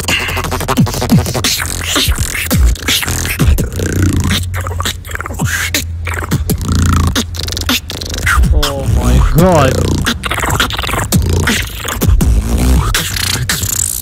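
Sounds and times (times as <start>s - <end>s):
person beatboxing: 0.0s - 14.0s.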